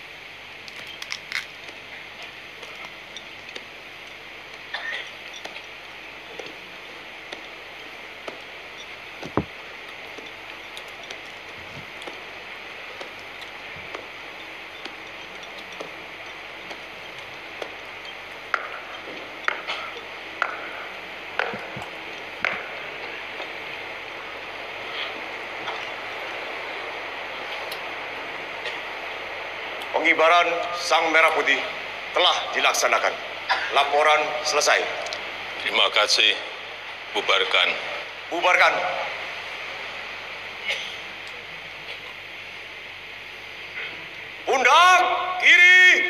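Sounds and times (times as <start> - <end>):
outdoor hiss: 0.0 - 46.0.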